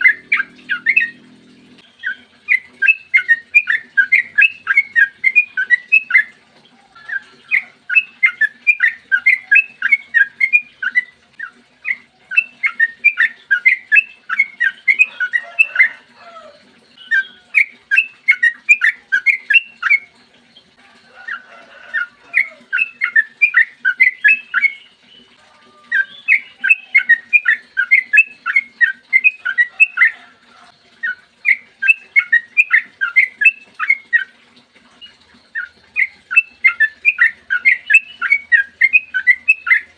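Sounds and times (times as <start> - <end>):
bulbul rapid chirping song: 0.0 - 34.4, 35.0 - 39.9.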